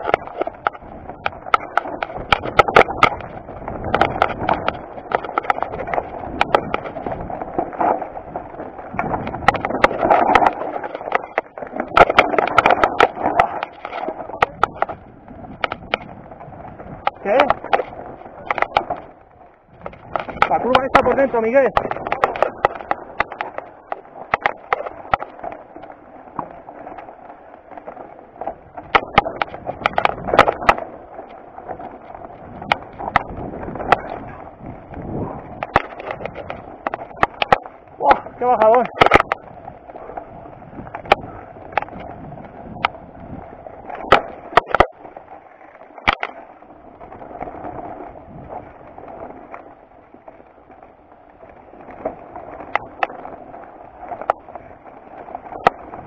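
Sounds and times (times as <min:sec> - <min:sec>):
bike knocks and rattles over stones: 0:00.0 - 0:56.0.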